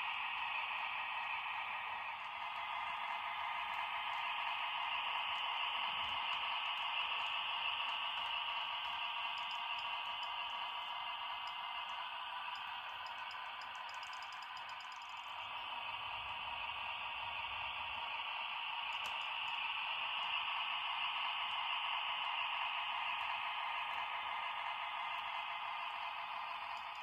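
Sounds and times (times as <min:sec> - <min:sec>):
model locomotive whirring: 0:00.0 - 0:27.0.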